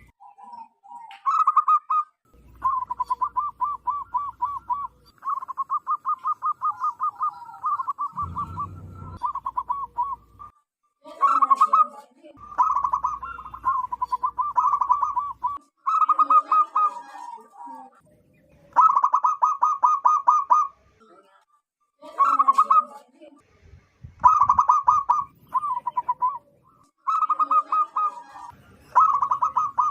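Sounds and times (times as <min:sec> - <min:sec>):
dove cooing: 0:00.9 - 0:10.5, 0:11.2 - 0:17.8, 0:18.7 - 0:20.8, 0:24.2 - 0:29.9.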